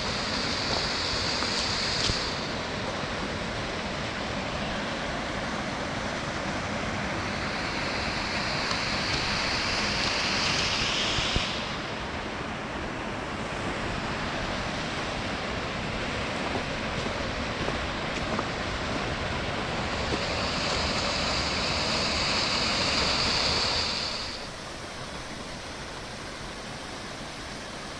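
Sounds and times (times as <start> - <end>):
small waterfall rushing: 0.0 - 27.9.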